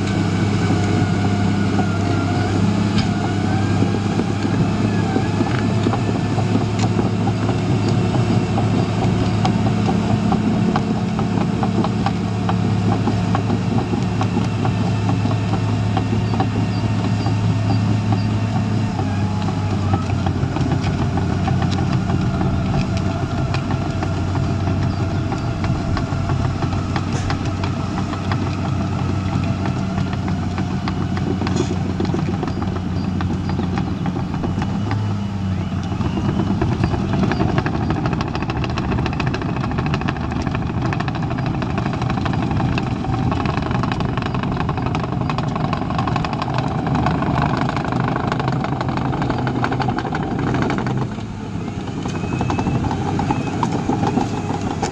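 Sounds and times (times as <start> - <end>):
dozer diesel engine under load: 0.0 - 54.9.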